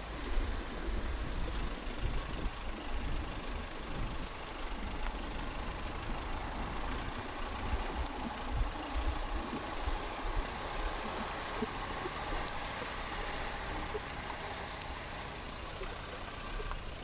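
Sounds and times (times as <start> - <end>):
car engine running: 0.0 - 17.0
tyre noise on dirt road: 0.0 - 17.0
wind rumbling on microphone: 0.0 - 17.0.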